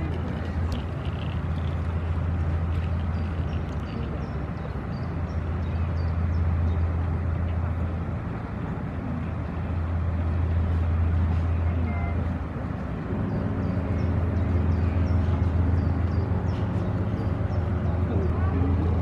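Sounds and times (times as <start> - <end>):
barge diesel engine drone: 0.0 - 19.0
constant rushing noise: 0.0 - 19.0.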